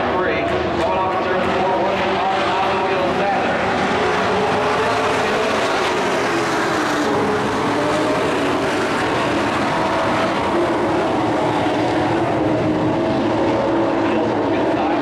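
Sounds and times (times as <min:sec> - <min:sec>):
race truck engines droning: 0:00.0 - 0:15.0.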